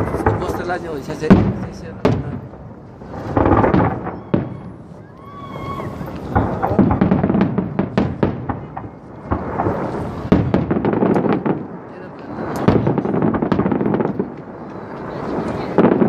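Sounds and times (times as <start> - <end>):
firework crackling and pops: 0.0 - 16.0
firework shells bursting: 0.0 - 16.0.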